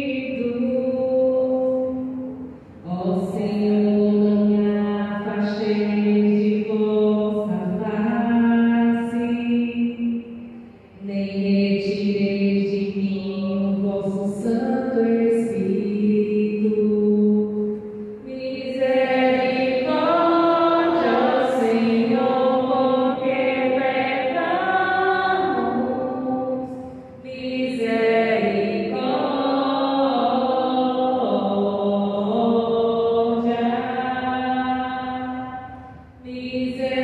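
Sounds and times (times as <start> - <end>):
woman chanting into microphone: 0.0 - 37.0.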